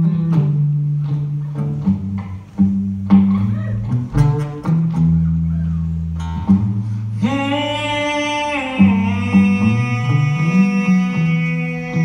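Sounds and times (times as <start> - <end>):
country-rock band playing: 0.0 - 11.7.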